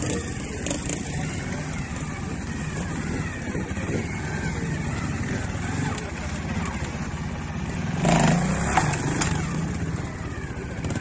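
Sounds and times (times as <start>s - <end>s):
motorcycle engine running at low speed: 0.0s - 11.0s.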